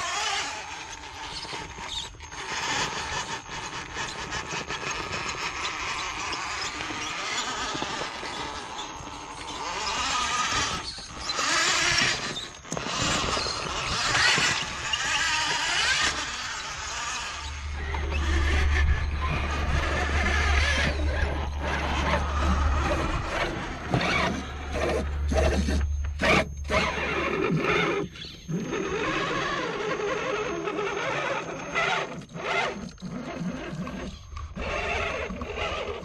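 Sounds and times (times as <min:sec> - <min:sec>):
electric motor and drivetrain: 0:00.0 - 0:36.0
tyres grinding on rock: 0:00.0 - 0:36.0.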